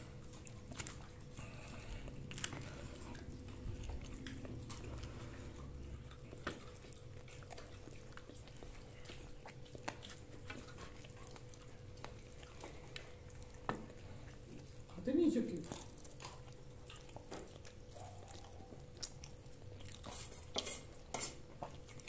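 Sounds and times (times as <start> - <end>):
faint steady hum: 0.0 - 22.0
person chewing food: 0.0 - 22.0.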